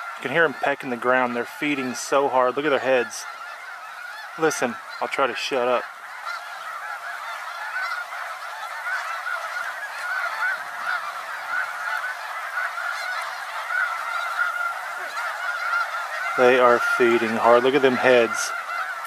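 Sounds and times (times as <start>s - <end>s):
bills pecking on stubble: 0.0s - 19.0s
geese calling: 0.0s - 19.0s.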